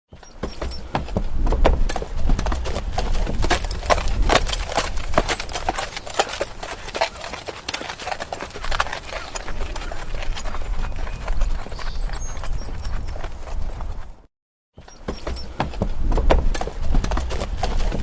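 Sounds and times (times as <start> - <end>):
horse hooves clip-clopping: 0.2 - 14.2, 14.8 - 18.0.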